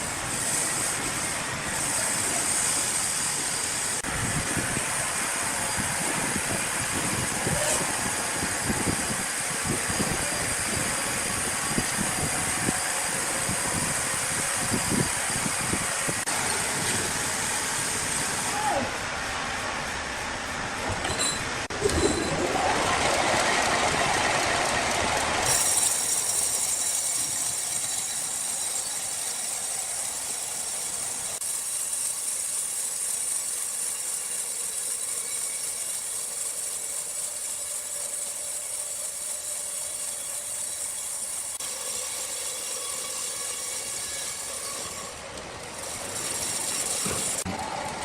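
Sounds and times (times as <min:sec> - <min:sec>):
saw blade cutting wood: 0:00.0 - 0:04.1, 0:05.8 - 0:18.5, 0:21.0 - 0:47.5.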